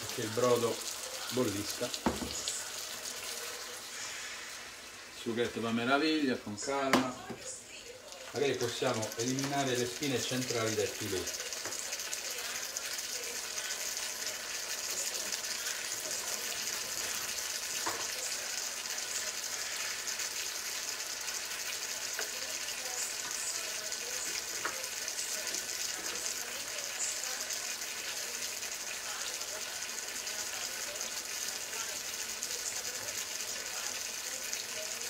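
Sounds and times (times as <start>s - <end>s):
sauce sizzling in a frying pan: 0.0s - 35.0s.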